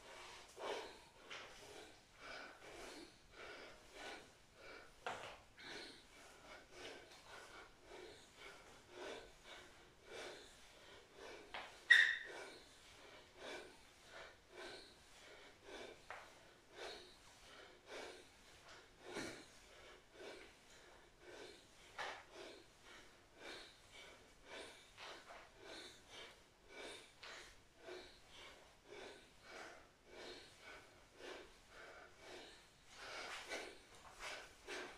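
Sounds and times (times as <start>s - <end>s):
person breathing hard: 0.0s - 34.9s.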